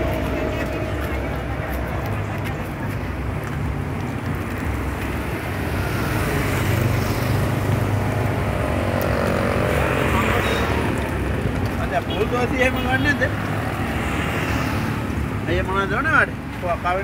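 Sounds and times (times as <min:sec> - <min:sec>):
road traffic passing: 0:00.0 - 0:17.0
vehicle engine: 0:00.0 - 0:17.0.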